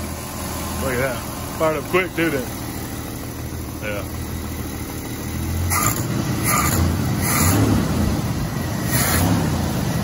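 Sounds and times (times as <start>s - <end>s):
engine running with throttle blips: 0.0s - 10.0s.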